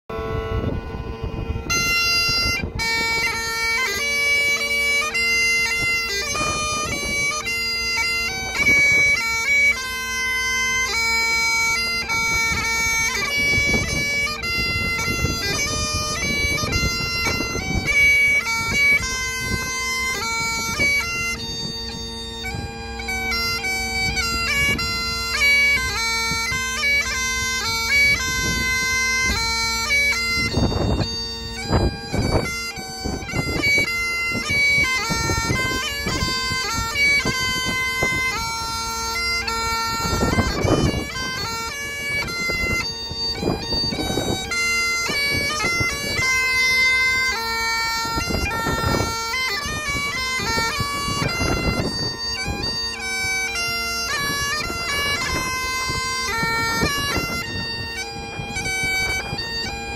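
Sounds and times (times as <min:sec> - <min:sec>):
bagpipe drone: 0:00.1 - 0:59.9
bagpipe melody: 0:00.1 - 0:59.9.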